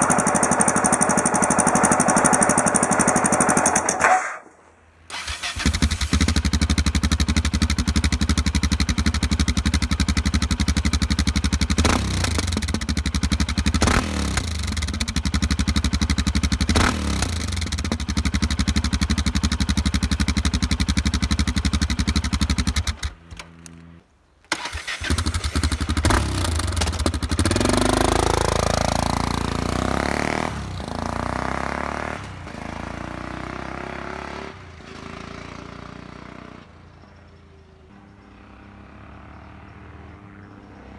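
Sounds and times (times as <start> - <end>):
motorcycle engine idling and revving: 0.0 - 4.1, 5.1 - 24.0, 24.6 - 40.9.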